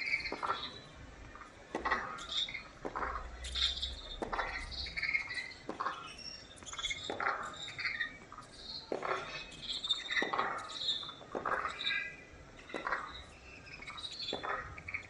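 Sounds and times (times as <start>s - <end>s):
birds chirping: 2.0s - 15.0s.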